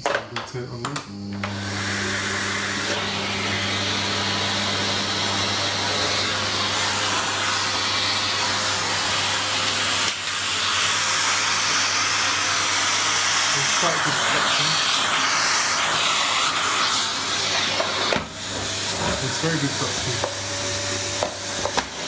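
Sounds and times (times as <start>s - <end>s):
vacuum cleaner running: 1.0s - 22.0s.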